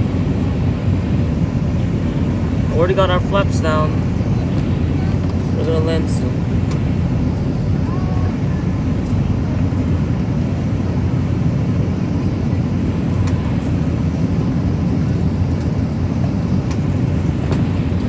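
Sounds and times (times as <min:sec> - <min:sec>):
airplane cabin engine roar: 0:00.0 - 0:18.0.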